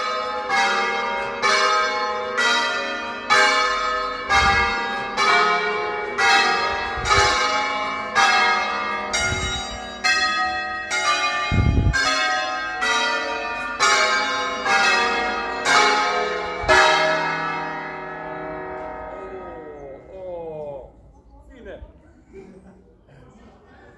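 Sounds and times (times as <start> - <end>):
church bells ringing: 0.0 - 20.2.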